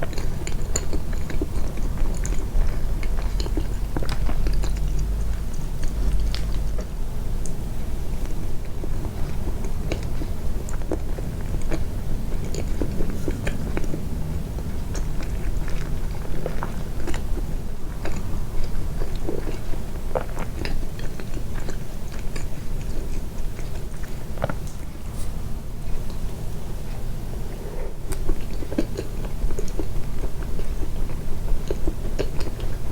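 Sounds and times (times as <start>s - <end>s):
close-miked chewing: 0.0s - 32.9s.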